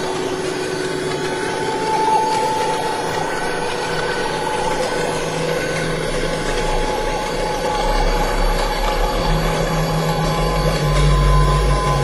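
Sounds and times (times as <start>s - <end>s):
electronic drone: 0.0s - 12.0s.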